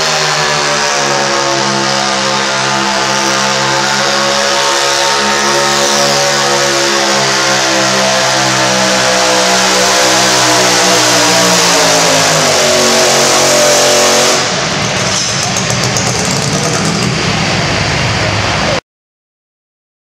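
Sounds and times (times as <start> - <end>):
tractor engine revving: 0.0 - 18.8.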